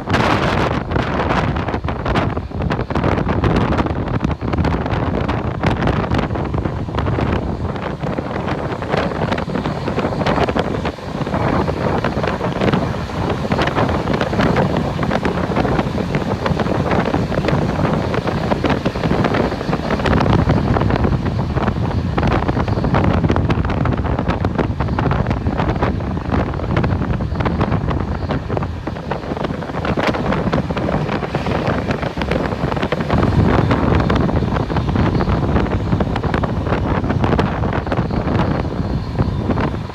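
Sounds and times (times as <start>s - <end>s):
moving train rushing roar: 0.0s - 39.9s
wind buffeting microphone: 0.0s - 39.9s.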